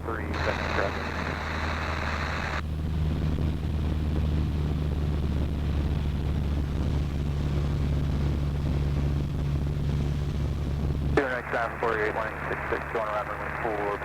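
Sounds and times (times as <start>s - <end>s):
airplane engine droning: 0.0s - 14.0s.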